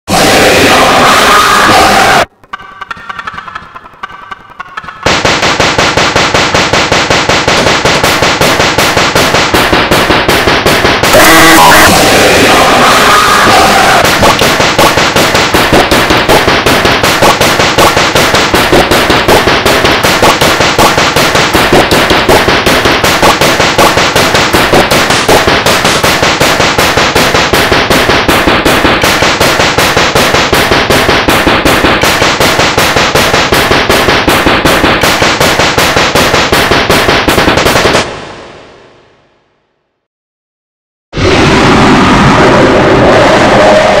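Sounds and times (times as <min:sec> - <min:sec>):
stuttering distorted remix samples: 0:00.3 - 0:38.1.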